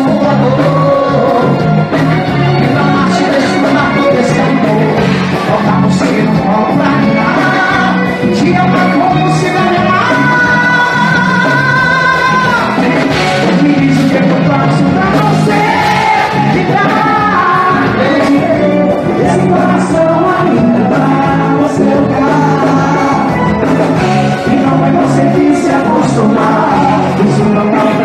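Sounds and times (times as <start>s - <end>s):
live band music through pa: 0.0s - 28.0s
man singing into microphone: 0.0s - 28.0s.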